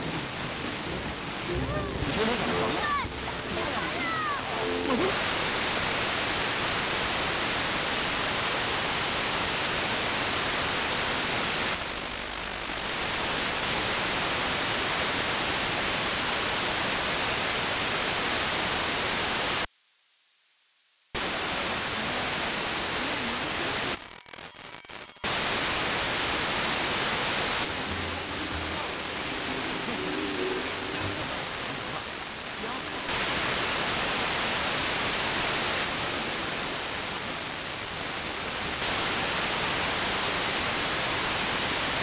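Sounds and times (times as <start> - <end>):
radio static hiss: 0.0 - 42.0.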